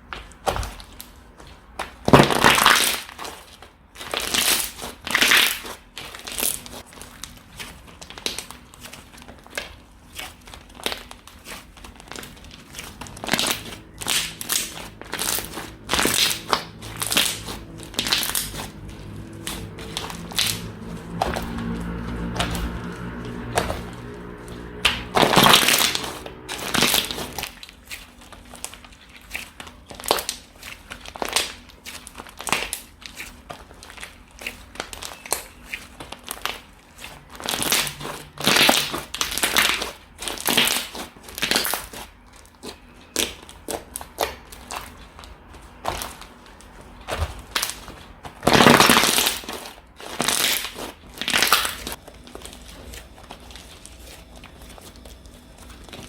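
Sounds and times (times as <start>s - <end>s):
slime squeezed by hand crackling: 1.9s - 56.0s.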